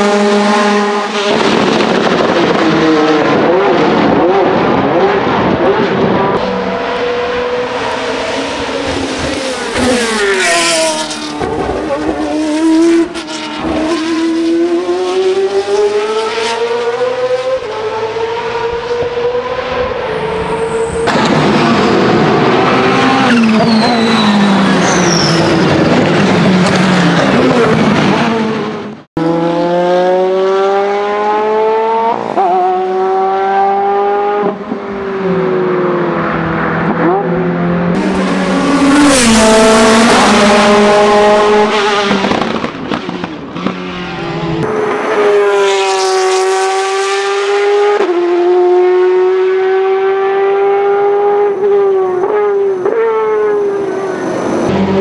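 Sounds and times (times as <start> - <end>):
race car engine revving and upshifting: 0.0 - 55.0
race car passing: 0.0 - 55.0.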